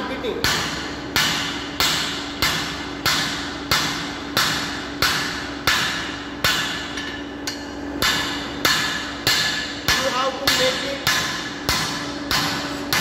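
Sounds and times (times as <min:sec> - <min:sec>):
steady low hum: 0:00.0 - 0:13.0
hammer striking metal on anvil: 0:00.4 - 0:13.0.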